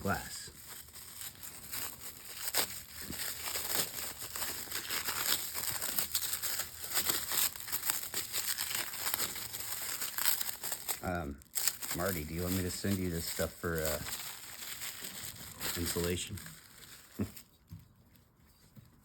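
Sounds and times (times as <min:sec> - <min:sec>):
packing material crinkling: 0:00.0 - 0:19.0.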